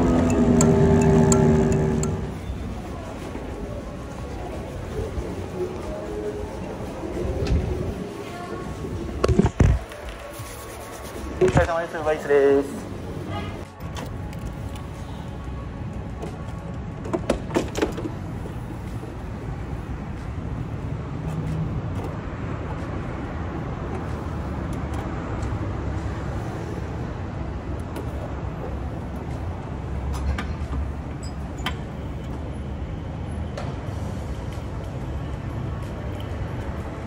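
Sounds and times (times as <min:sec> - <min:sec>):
scooter engine and road noise: 0:00.0 - 0:37.0.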